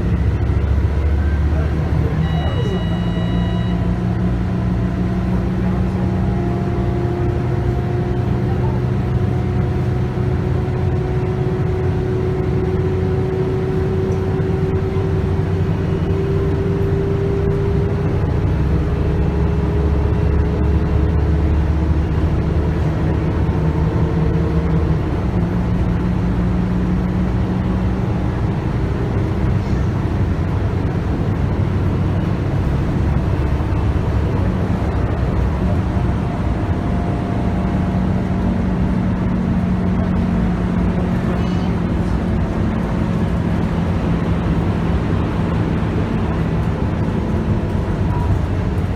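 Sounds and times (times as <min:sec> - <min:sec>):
bus diesel engine running: 0:00.0 - 0:48.9.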